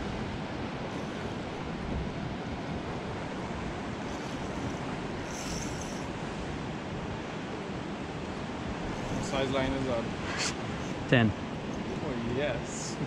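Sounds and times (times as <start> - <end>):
sea water washing around boat: 0.0 - 11.8.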